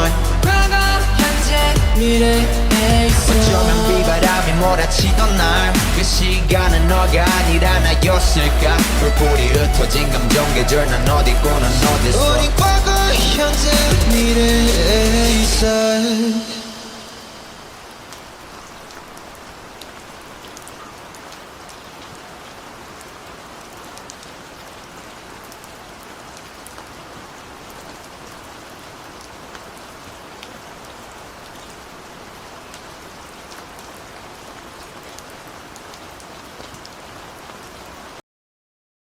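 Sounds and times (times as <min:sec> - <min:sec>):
steady rain falling: 0:00.0 - 0:38.2.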